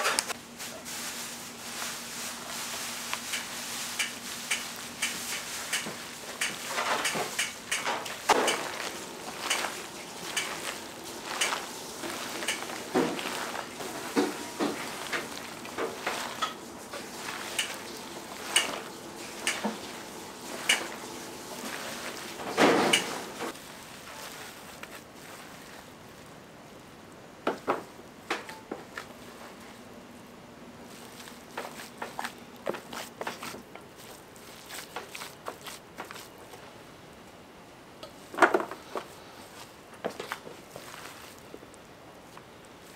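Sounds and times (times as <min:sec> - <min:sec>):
squelching wet mixture being kneaded: 0:01.0 - 0:27.3, 0:30.7 - 0:36.9, 0:38.2 - 0:42.9.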